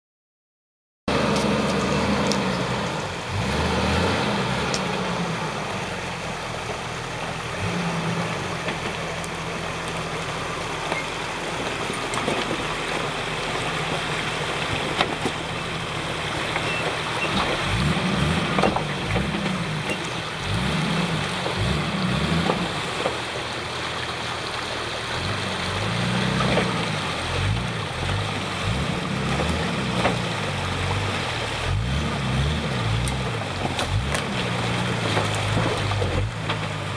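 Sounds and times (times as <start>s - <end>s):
diesel engine revving: 1.1s - 36.9s.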